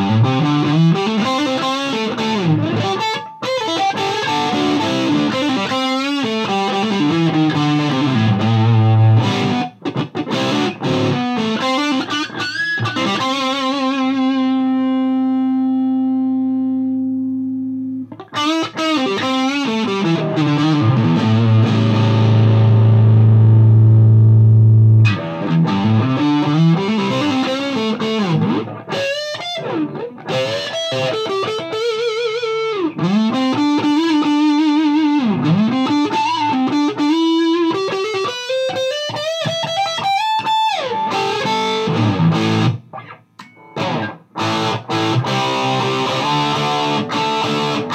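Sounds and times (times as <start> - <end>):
distorted electric guitar riffs: 0.0 - 47.9.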